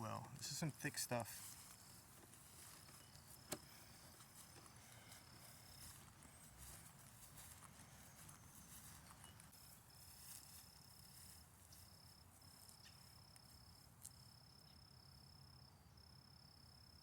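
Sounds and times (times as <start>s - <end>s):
quiet rustling: 0.0s - 14.2s.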